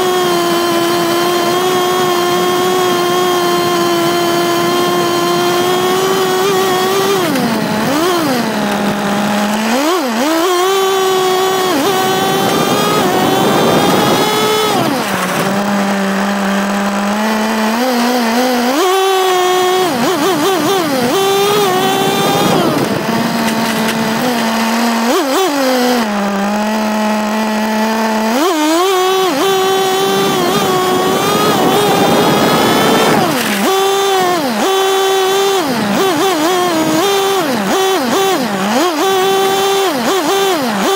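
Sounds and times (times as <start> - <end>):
model car engine revving: 0.0 - 40.9.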